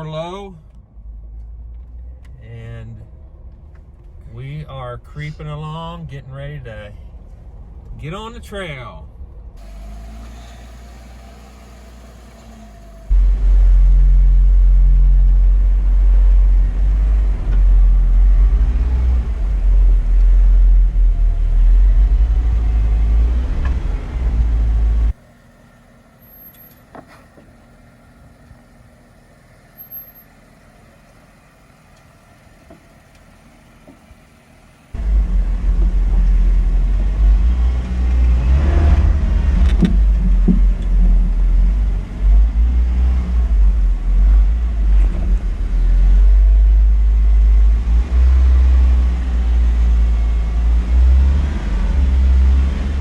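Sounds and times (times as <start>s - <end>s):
vehicle engine rumble: 0.0s - 53.0s.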